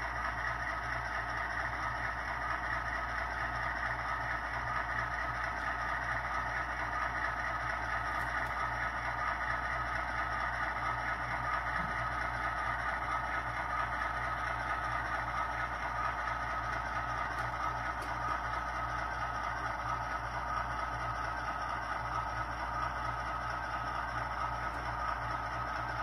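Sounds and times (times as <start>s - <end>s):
diesel engine sound from small speaker: 0.0s - 26.0s.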